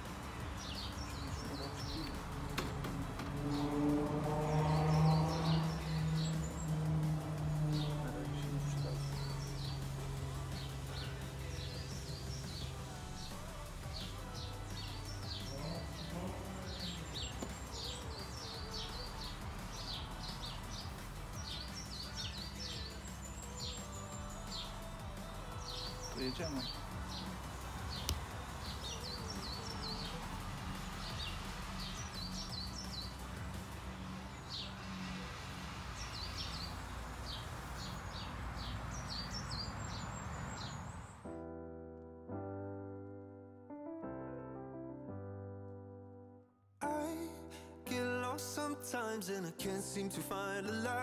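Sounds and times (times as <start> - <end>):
piano chords: 0.0 - 35.8, 40.2 - 51.0
background hiss: 0.0 - 41.1
songbird chirping: 0.0 - 41.4.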